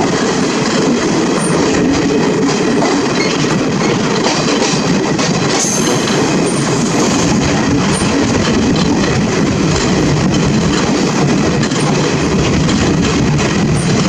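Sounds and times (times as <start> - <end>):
train rumbling and rattling on track: 0.0 - 14.0.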